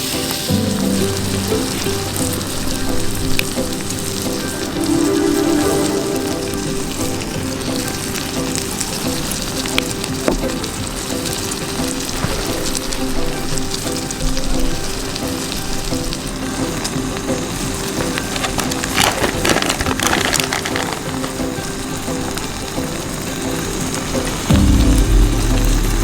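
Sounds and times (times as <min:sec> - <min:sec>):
food sizzling in a pan: 0:00.0 - 0:24.5
soft background music: 0:00.0 - 0:26.0.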